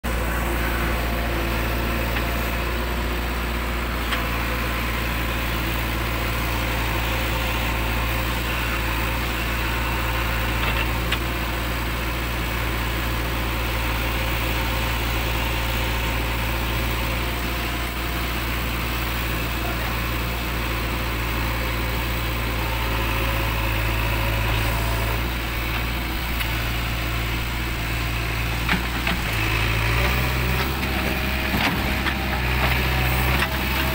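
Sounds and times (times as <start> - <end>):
diesel engine running: 0.0 - 33.9
backhoe digging soil: 0.1 - 33.9.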